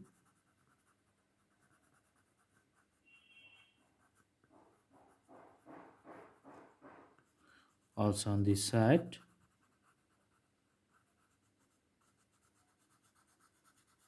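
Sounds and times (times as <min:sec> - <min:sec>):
pencil strokes on paper: 0:00.0 - 0:14.0.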